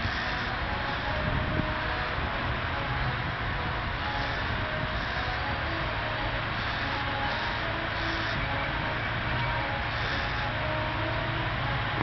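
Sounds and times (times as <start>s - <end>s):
distant train rumble and hiss: 0.0s - 12.0s.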